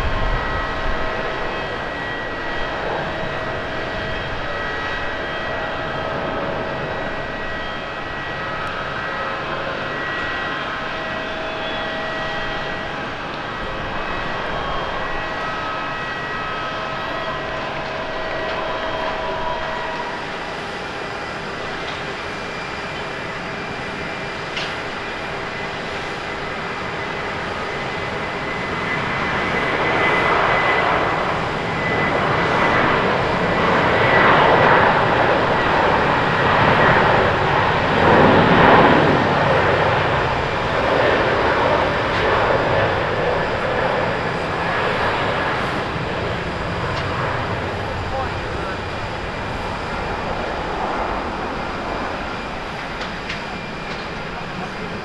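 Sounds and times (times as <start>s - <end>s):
jet airliner takeoff roar: 0.0s - 55.0s
jet engine whine: 0.0s - 55.0s.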